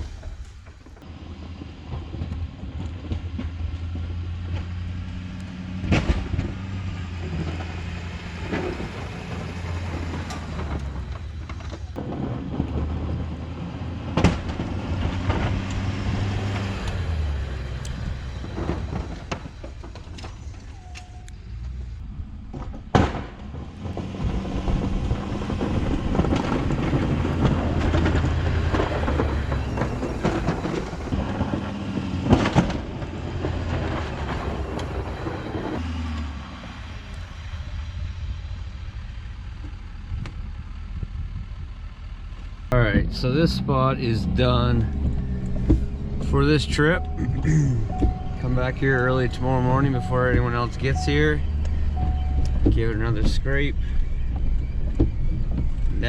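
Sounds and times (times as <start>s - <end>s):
pickup truck engine under load: 0.0s - 56.0s.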